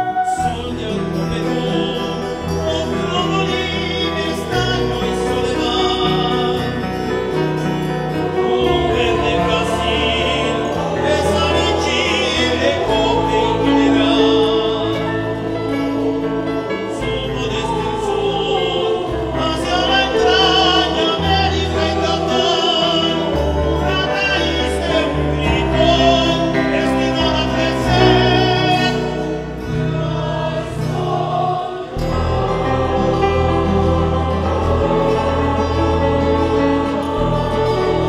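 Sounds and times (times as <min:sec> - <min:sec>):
mixed choir singing: 0:00.0 - 0:38.0
strummed stringed instruments: 0:00.0 - 0:38.0.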